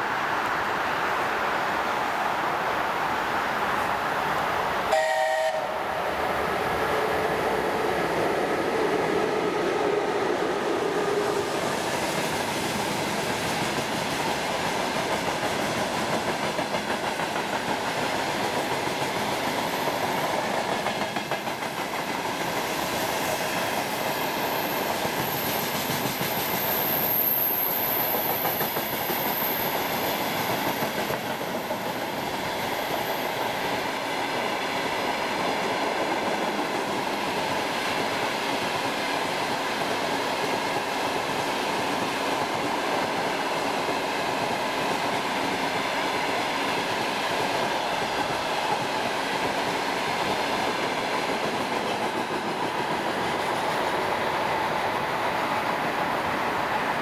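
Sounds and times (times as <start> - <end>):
electric locomotive passing: 0.0 - 57.0.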